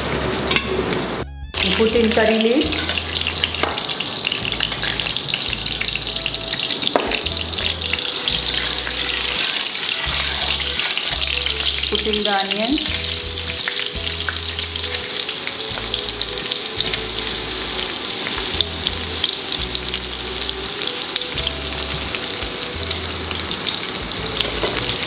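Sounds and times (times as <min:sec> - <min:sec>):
onions sizzling and crackling in oil: 0:00.0 - 0:25.0.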